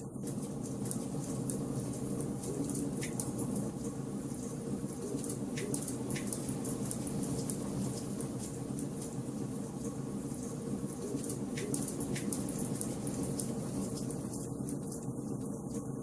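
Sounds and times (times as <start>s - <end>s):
fine crackling of fire: 0.0s - 16.0s.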